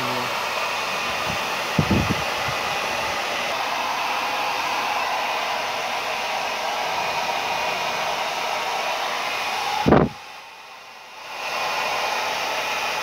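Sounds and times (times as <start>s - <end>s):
hair dryer blowing air: 0.0s - 13.0s.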